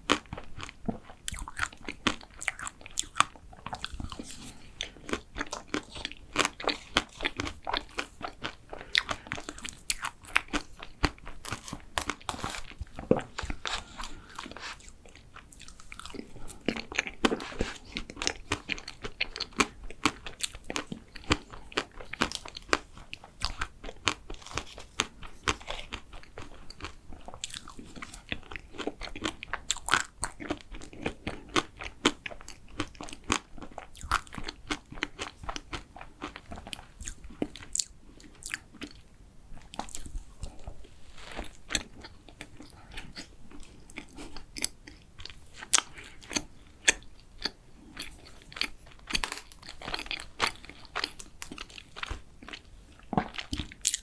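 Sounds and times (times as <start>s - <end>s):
biting and chewing macaron: 0.0s - 54.0s.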